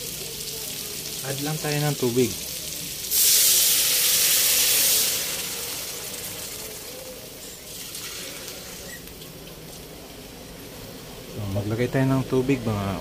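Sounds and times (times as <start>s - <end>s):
water sizzling in hot wok: 0.0s - 13.0s.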